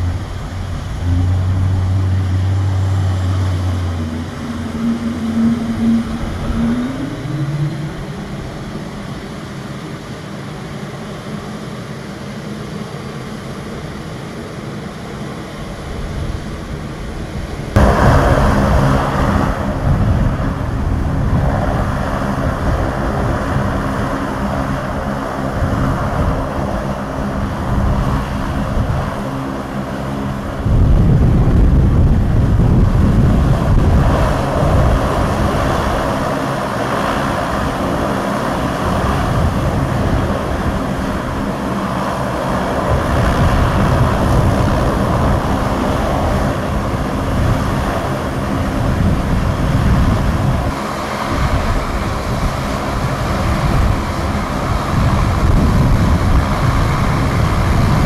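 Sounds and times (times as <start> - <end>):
turboprop engines running: 0.0 - 58.0.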